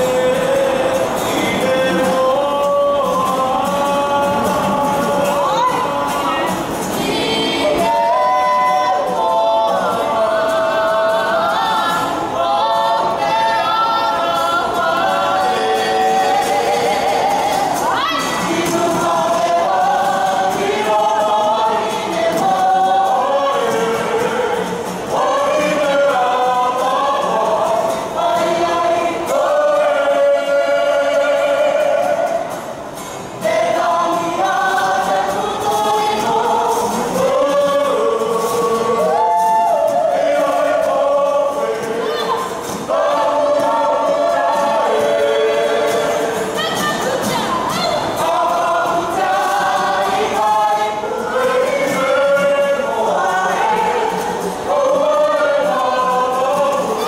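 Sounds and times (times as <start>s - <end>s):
acoustic guitar: 0.0s - 57.0s
group singing in harmony: 0.0s - 57.0s.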